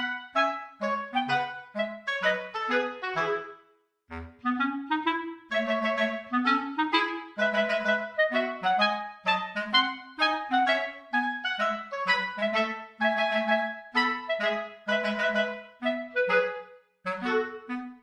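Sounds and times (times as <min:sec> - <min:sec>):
bouncy clarinet melody: 0:00.0 - 0:18.0.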